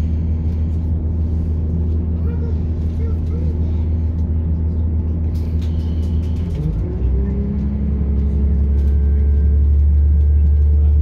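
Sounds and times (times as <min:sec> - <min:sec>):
diesel train engine drone: 0:00.0 - 0:11.0.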